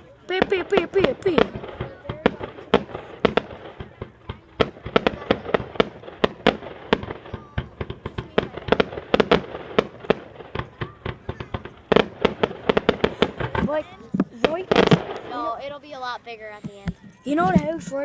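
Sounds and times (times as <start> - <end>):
fireworks banging: 0.3 - 16.0, 16.6 - 18.0.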